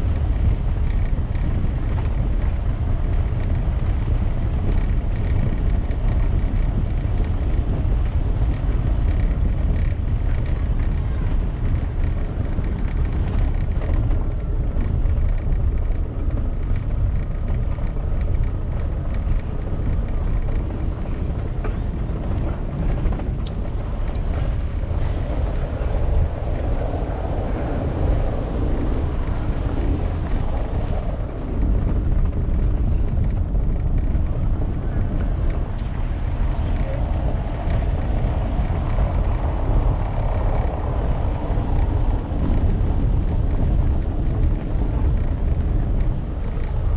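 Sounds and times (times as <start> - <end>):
tyres rumbling on cobblestones: 0.0 - 46.9.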